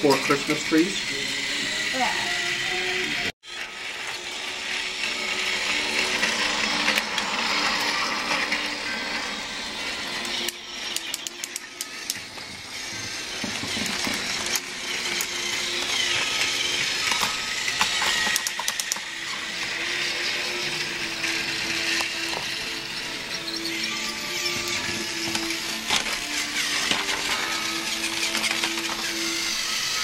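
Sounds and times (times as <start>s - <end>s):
toy train motors whirring: 0.0s - 30.0s.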